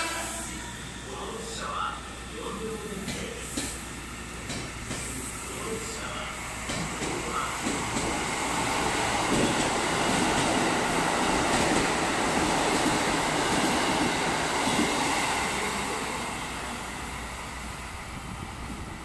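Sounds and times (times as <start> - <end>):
diesel train passing: 0.0 - 19.0
train wheels rolling on rails: 2.4 - 19.0.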